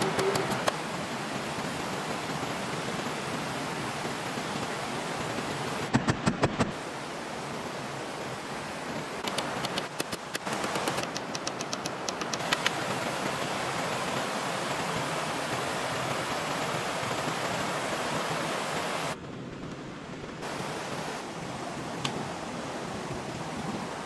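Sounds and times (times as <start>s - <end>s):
stream water rushing: 0.0s - 5.9s, 6.7s - 19.2s, 20.4s - 24.0s.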